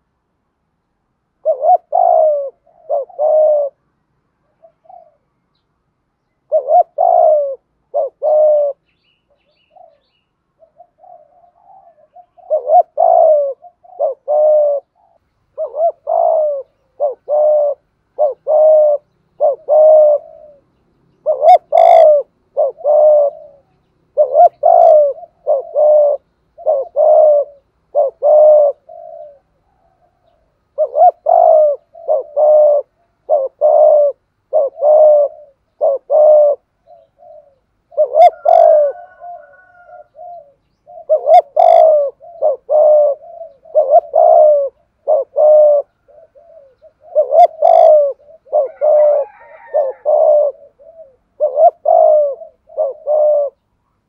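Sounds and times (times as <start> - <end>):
dove cooing: 1.3 - 5.3, 6.4 - 54.0.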